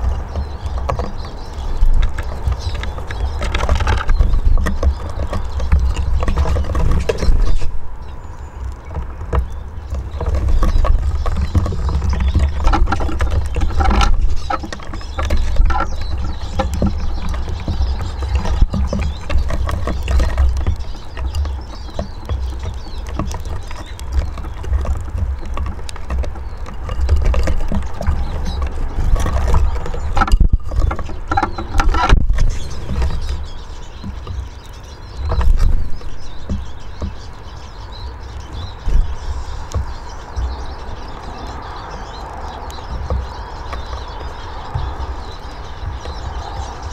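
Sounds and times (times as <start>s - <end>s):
birds pecking and tapping on wood: 0.0s - 46.9s.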